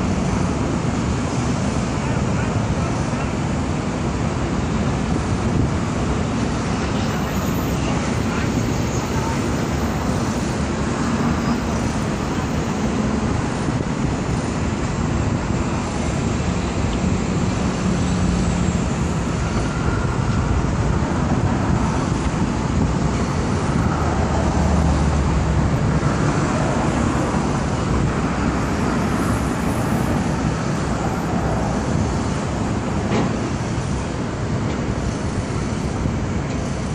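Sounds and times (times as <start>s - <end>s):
low engine hum: 0.0s - 36.9s
road traffic roar: 0.0s - 36.9s.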